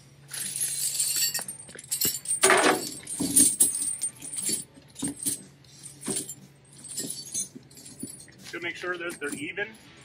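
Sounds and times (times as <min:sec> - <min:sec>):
tire chains jangling: 0:00.2 - 0:10.0.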